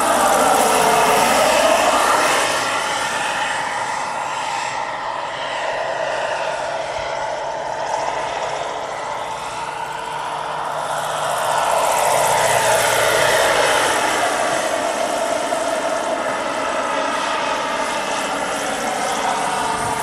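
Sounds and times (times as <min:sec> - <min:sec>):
helicopter rotor noise: 0:00.0 - 0:20.0
model helicopter turbine whine: 0:00.0 - 0:20.0.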